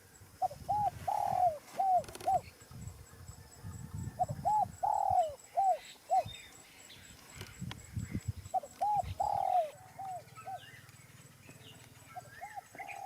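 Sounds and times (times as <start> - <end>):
dove cooing: 0.0 - 6.4, 7.4 - 10.9, 11.5 - 13.0.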